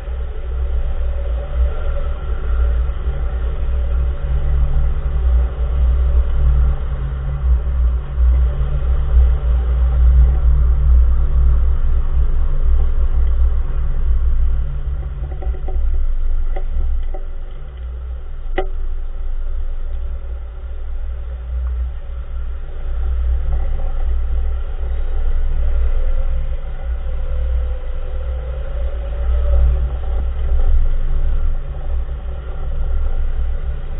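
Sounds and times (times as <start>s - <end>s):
car road rumble: 0.0s - 33.9s.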